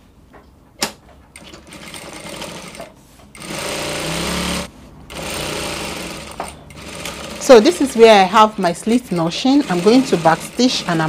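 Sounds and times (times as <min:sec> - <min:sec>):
sewing machine stitching: 0:01.4 - 0:11.0.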